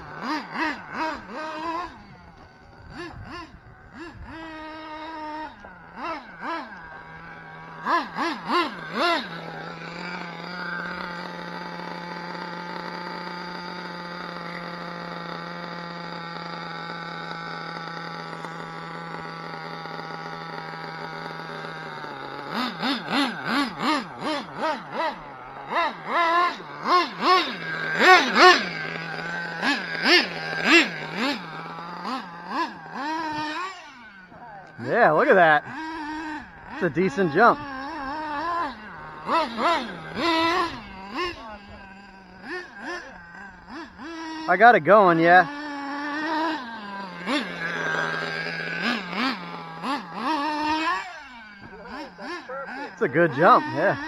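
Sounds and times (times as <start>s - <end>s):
high-pitched engine hum: 0.0s - 54.0s
model truck engine revving: 0.0s - 54.0s.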